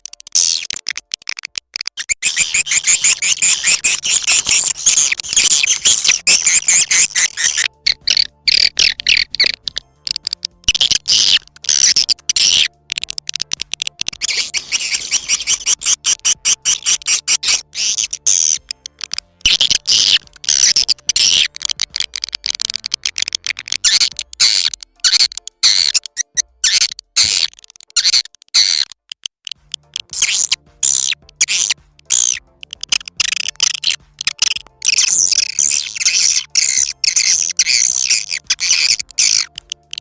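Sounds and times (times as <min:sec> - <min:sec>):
rapid high twittering chirps: 0:00.0 - 0:40.0
swiftlet calls: 0:00.0 - 0:40.0.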